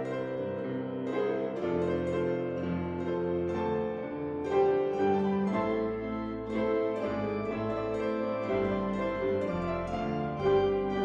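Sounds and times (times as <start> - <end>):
organ holding chords: 0.0 - 11.0
piano playing slow music: 0.0 - 11.0.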